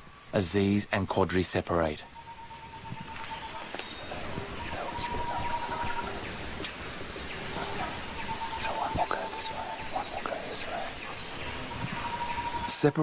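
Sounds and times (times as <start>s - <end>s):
high-pitched insect drone: 0.0s - 13.0s
low insect trill: 0.0s - 13.0s
bird chirps: 1.6s - 13.0s.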